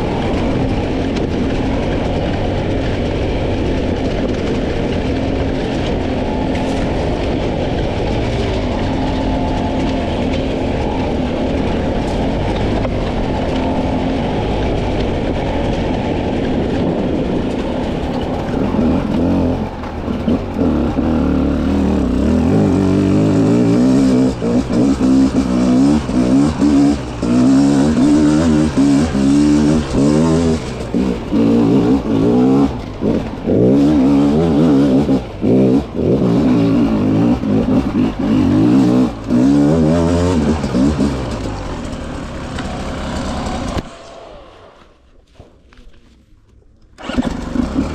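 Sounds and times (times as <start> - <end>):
dirt bike engine revving: 0.0 - 45.0, 47.0 - 47.9.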